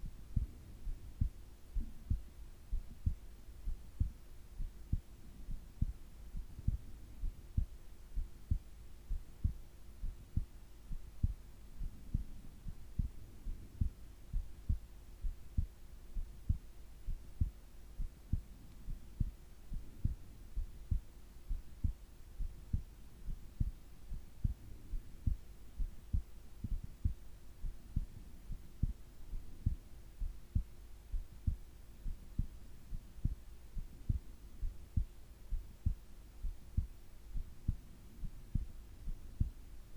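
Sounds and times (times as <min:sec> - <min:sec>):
heartbeat thumps: 0:00.0 - 0:39.7
faint steady hum: 0:00.0 - 0:39.9.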